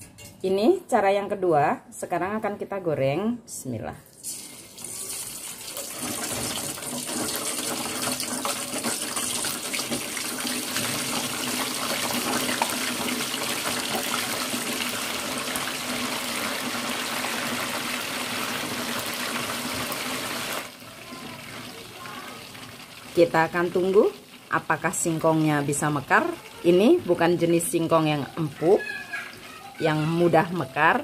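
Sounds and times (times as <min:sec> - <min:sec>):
food sizzling in hot oil: 0:04.2 - 0:31.0.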